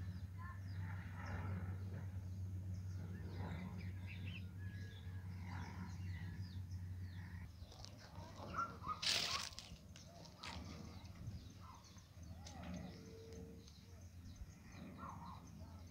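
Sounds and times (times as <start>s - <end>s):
birds chirping and calling: 0.0s - 15.9s
steady low hum: 0.0s - 15.9s.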